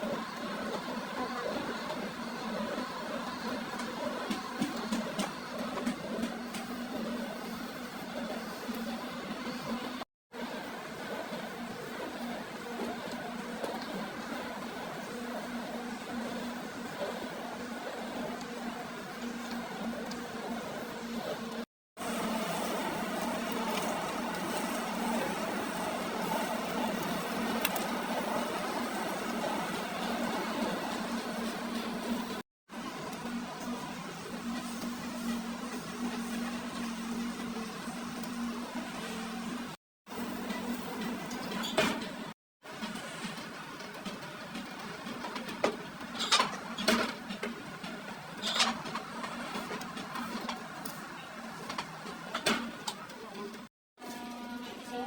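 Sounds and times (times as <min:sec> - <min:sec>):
workshop machine humming: 0:00.0 - 0:55.0.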